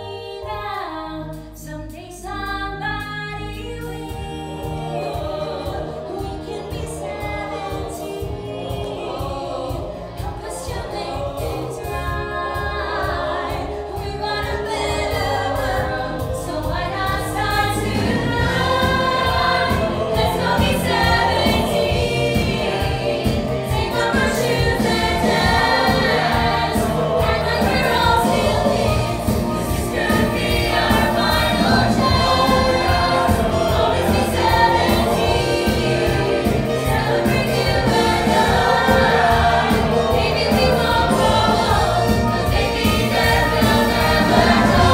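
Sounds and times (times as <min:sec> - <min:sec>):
ensemble singing with instruments: 0:00.0 - 0:44.9.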